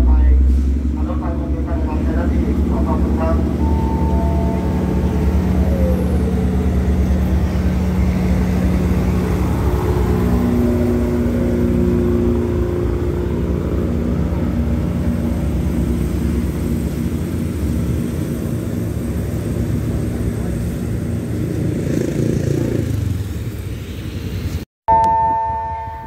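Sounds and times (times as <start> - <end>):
diesel train engine running: 0.0 - 24.6.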